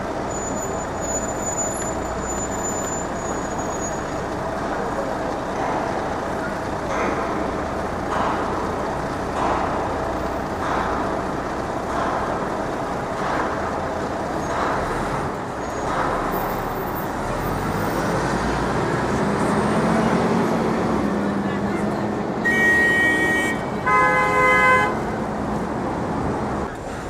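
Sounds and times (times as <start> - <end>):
passing vehicles: 0.0 - 27.0.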